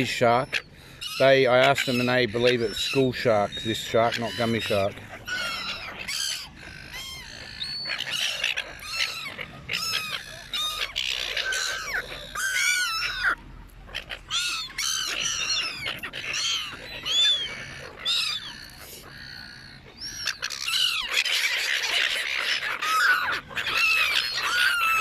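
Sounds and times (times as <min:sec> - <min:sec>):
seagulls calling: 0:00.0 - 0:25.0.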